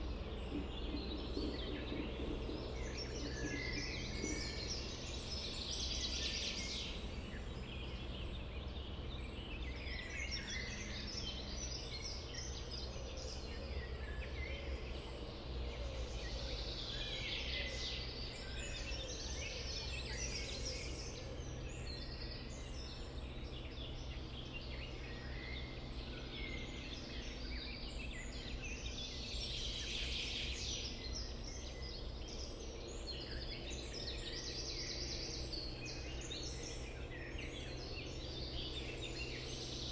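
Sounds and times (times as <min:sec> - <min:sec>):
songbirds singing: 0:00.0 - 0:39.9
steady low rumble: 0:00.0 - 0:39.9.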